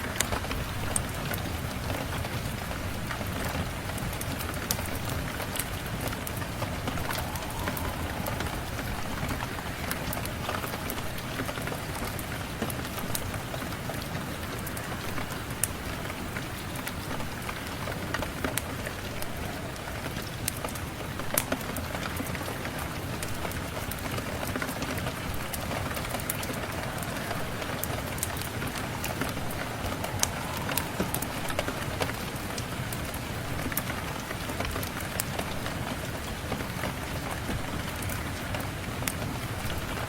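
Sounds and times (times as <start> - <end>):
rain falling: 0.0 - 40.0.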